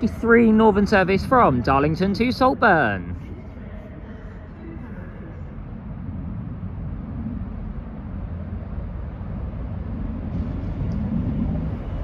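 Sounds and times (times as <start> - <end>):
diesel train rumble: 0.0 - 12.0.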